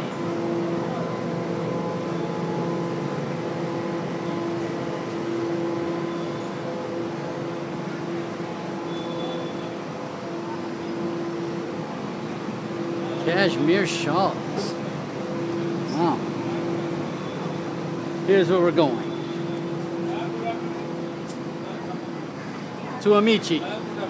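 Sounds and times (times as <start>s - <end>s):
steady machine hum: 0.0s - 24.0s
traffic: 0.0s - 24.0s.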